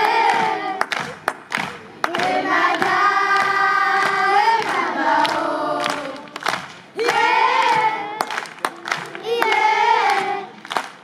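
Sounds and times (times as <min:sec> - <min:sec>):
hand claps: 0:00.0 - 0:11.0.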